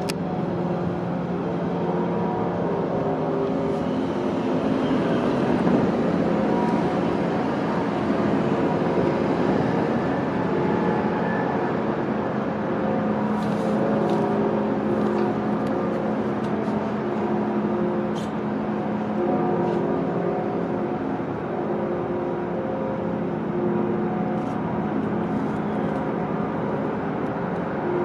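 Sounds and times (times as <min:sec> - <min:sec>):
subway train running: 0:00.0 - 0:28.0.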